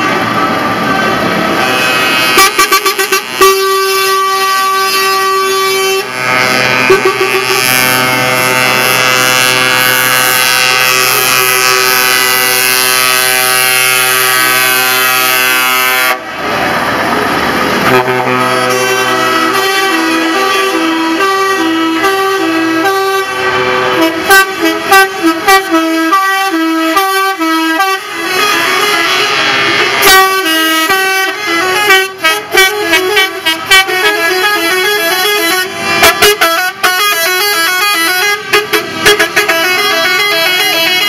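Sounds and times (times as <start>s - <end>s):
truck air horns: 1.2s - 16.4s, 17.7s - 41.0s.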